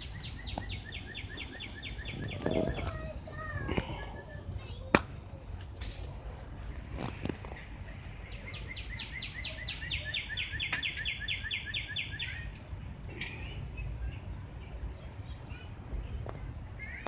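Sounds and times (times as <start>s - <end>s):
small bird singing: 0.0s - 5.7s, 6.3s - 17.0s.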